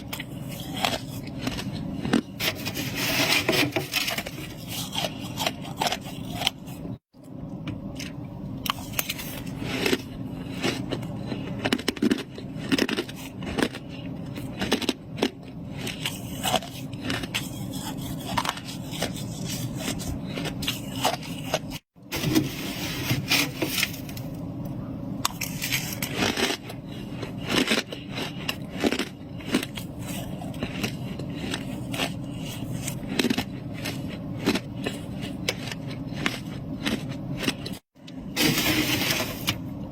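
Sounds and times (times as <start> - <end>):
freezer frost being scraped: 0.0 - 6.8, 8.7 - 13.8, 15.8 - 24.4, 25.3 - 37.5, 38.3 - 39.6.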